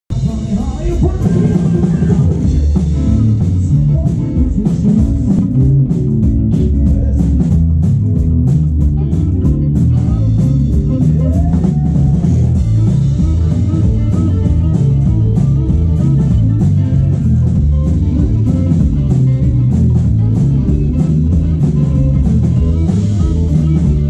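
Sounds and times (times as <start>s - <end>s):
keyboard: 0.1s - 24.0s
live rock band playing: 0.1s - 24.0s.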